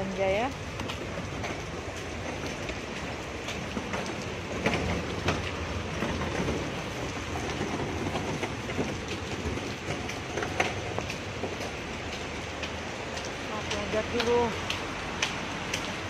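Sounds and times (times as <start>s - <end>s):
heavy rain on street: 0.0s - 16.0s.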